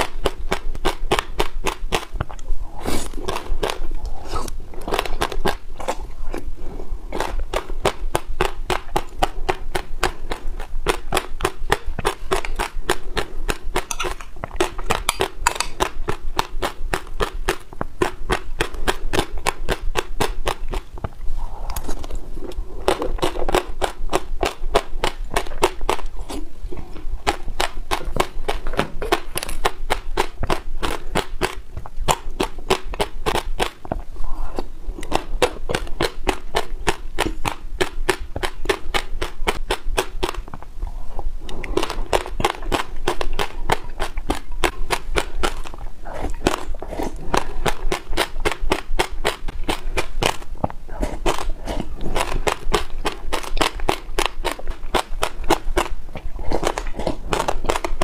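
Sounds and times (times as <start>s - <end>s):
seeds crunching between teeth: 7.1s - 40.6s, 41.5s - 58.0s.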